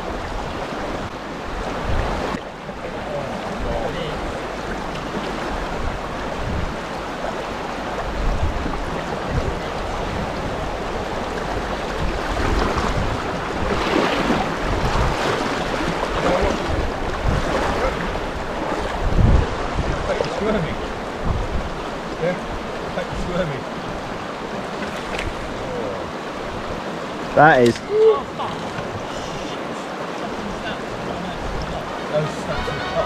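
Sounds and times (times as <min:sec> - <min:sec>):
wind buffeting microphone: 0:00.0 - 0:29.6
river water rushing: 0:00.0 - 0:33.0.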